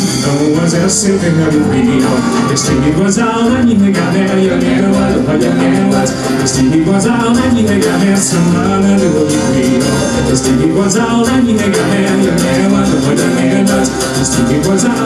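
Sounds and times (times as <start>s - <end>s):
folk band playing live: 0.0s - 15.0s
man singing lead: 0.0s - 15.0s
percussion: 0.0s - 15.0s.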